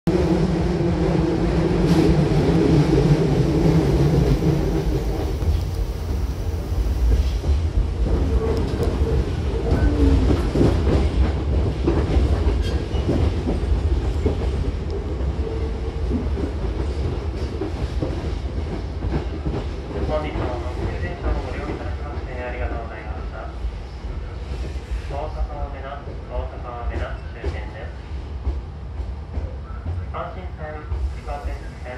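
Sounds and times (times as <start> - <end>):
train rumble: 0.1 - 31.9.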